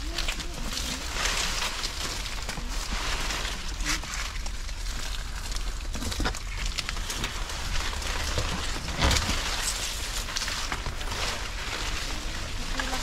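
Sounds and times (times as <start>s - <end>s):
leaves rustling underfoot: 0.0s - 13.0s.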